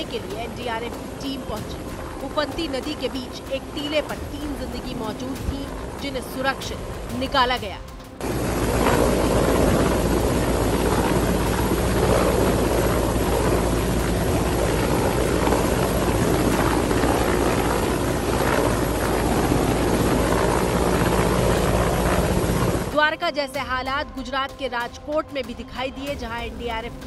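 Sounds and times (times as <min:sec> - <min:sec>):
helicopter hovering: 0:00.0 - 0:24.0.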